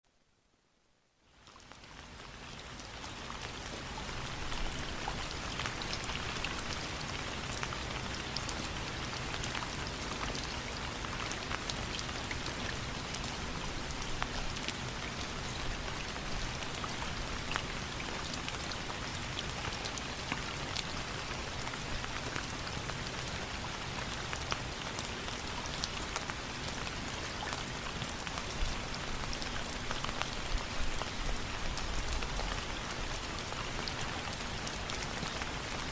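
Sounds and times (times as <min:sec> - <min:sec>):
steady rain: 0:00.2 - 0:35.9.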